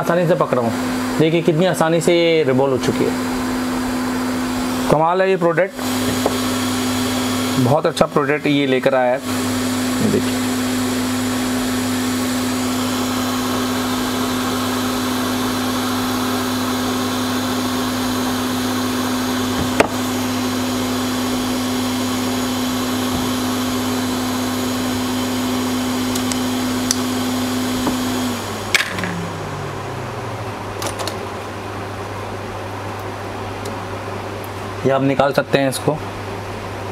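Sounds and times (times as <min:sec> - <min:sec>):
blower humming: 0:00.0 - 0:36.9
blower winding down: 0:02.4 - 0:33.1.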